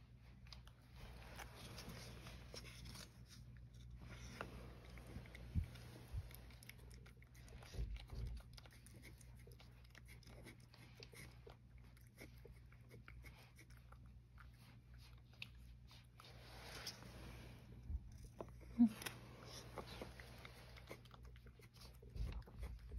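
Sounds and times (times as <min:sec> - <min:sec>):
cat chewing food: 0:00.1 - 0:22.9.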